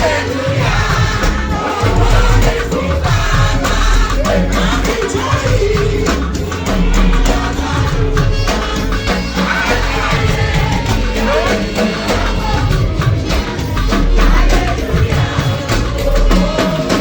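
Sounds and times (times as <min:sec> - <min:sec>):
gospel singing: 0:00.0 - 0:17.0
steady drum beat: 0:00.0 - 0:17.0.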